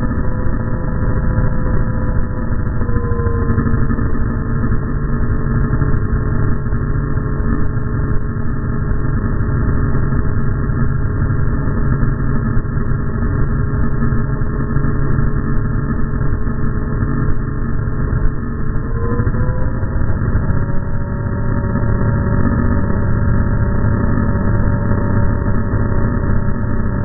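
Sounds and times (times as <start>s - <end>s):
model airplane motor drone: 0.0s - 27.0s.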